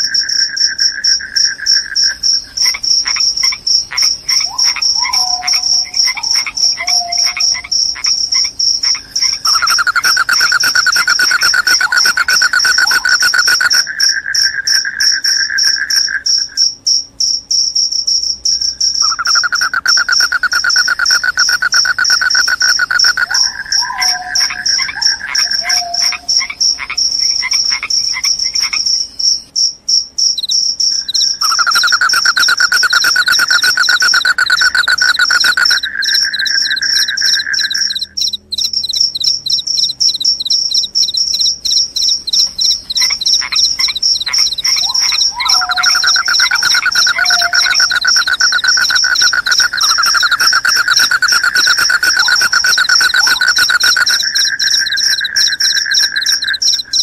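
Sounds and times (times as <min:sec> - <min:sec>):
high rapid cricket trill: 0:00.0 - 0:57.0
lower pulsing cricket trill: 0:00.0 - 0:57.0.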